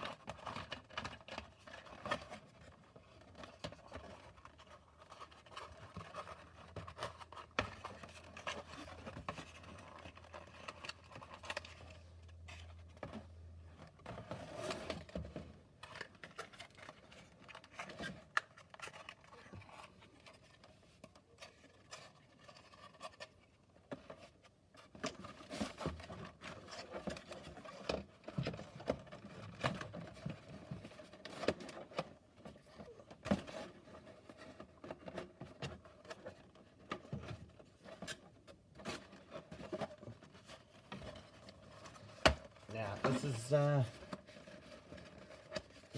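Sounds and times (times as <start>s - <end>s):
cardboard scraping and rustling: 0.0s - 45.9s.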